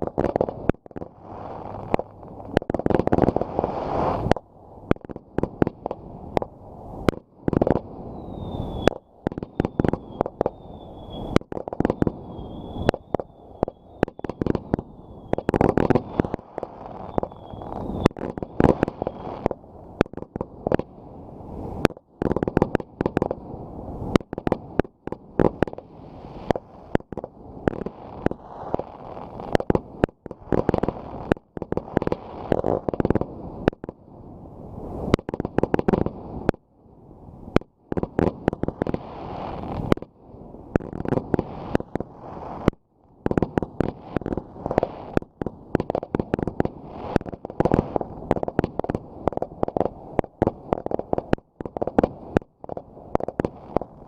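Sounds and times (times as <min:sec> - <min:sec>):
fireworks banging: 0:00.0 - 0:21.0, 0:21.6 - 0:34.0, 0:34.9 - 0:36.6, 0:37.5 - 0:40.1, 0:40.7 - 0:54.0
continuous low rumble: 0:00.0 - 0:54.0.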